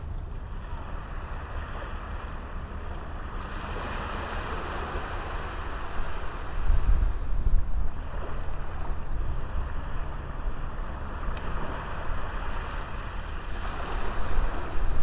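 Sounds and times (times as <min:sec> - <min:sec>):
sea waves washing onto beach: 0:00.3 - 0:15.0
wind buffeting the microphone: 0:02.7 - 0:15.0.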